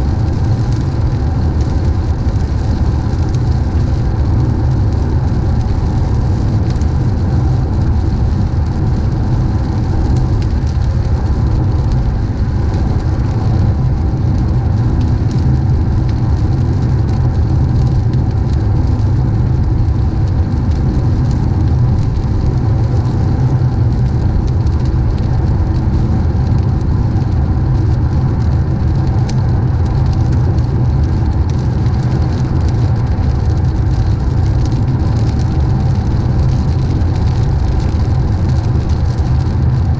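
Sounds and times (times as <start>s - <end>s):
car engine and road rumble: 0.0s - 39.9s
rain hiss: 0.0s - 39.9s.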